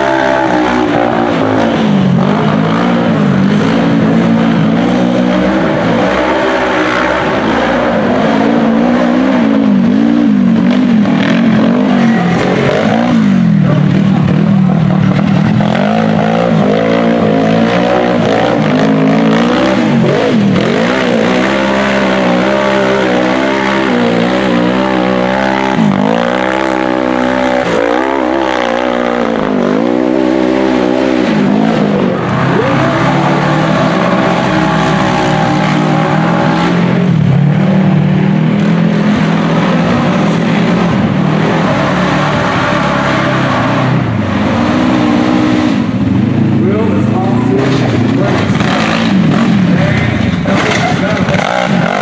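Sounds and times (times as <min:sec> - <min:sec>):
buggy engine revving hard: 0:00.0 - 0:52.0.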